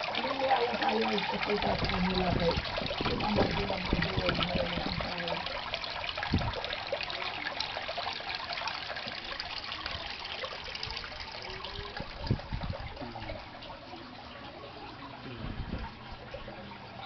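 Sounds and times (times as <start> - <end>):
water splashing into tank: 0.0 - 17.0.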